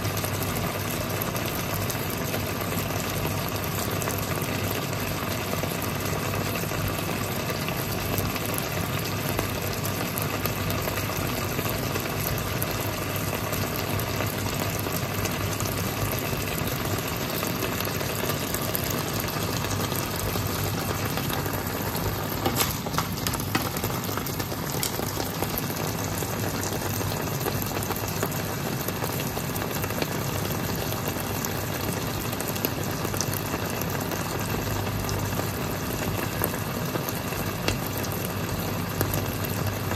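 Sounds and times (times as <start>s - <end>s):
sauce sizzling in a pan: 0.0s - 39.9s.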